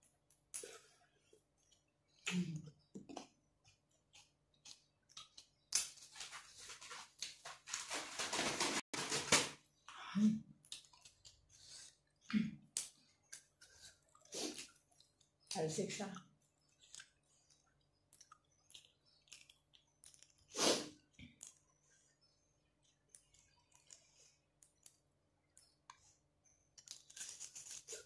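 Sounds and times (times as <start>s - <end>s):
chewing and mouth clicks: 0.2s - 6.0s, 10.6s - 15.6s, 16.2s - 28.0s.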